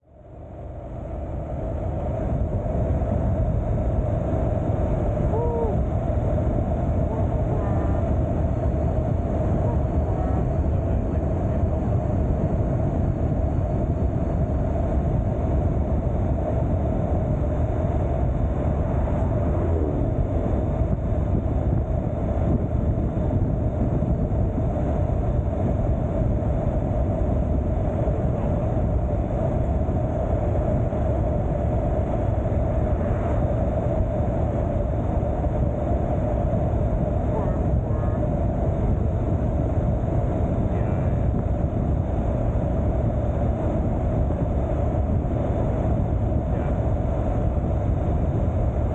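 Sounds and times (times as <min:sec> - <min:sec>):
wind rumble on microphone: 0:00.0 - 0:48.9.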